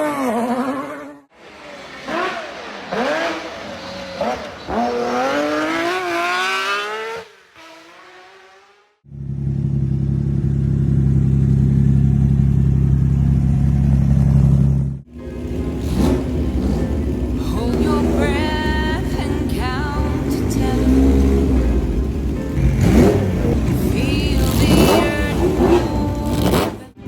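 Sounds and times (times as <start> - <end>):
car engine revving: 1.3 - 27.0.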